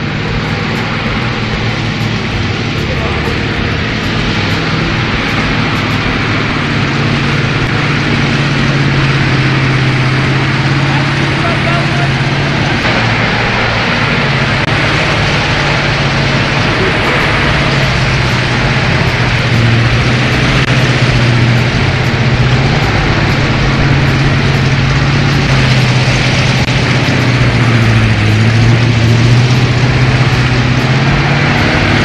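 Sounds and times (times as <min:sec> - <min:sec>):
heavy truck engine running: 0:00.0 - 0:32.0.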